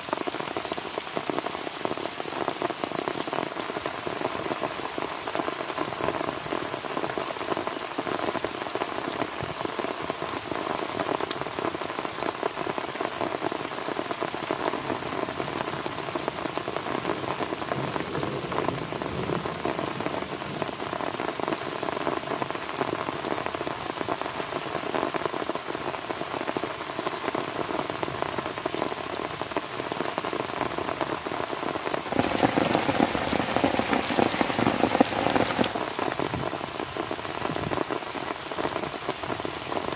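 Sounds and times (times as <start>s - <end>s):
heavy rain on plastic tarp: 0.0s - 39.9s.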